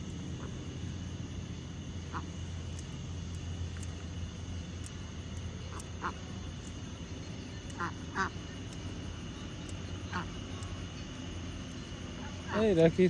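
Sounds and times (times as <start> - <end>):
low background rumble: 0.0 - 13.0
ducks quacking faintly: 0.4 - 13.0.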